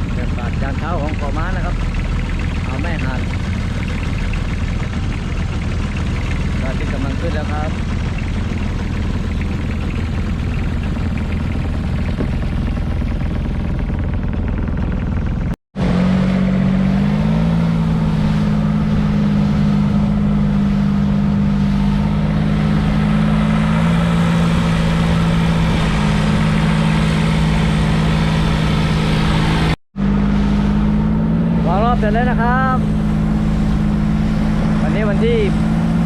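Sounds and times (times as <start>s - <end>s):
boat engine drone: 0.0s - 36.0s
water noise: 0.0s - 36.0s
wind: 0.0s - 36.0s.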